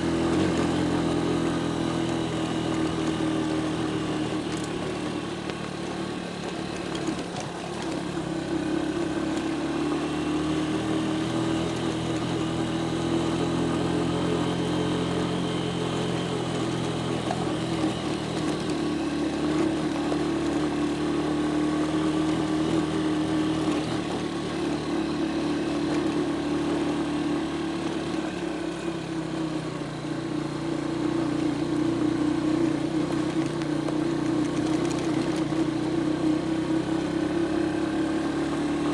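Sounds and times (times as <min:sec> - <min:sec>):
vehicle engine on dirt road: 0:00.0 - 0:38.9.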